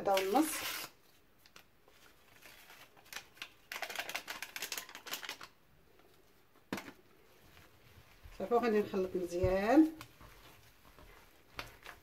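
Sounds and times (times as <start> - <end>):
powder tapping and crinkling: 1.4 - 12.0.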